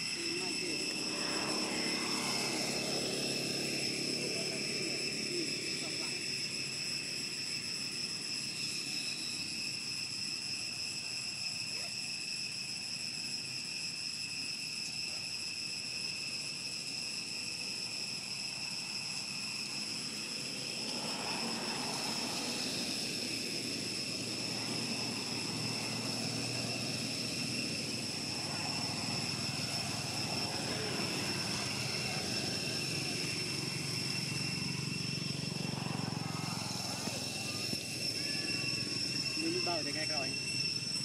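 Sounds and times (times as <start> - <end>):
insects shrilling: 0.0 - 41.0.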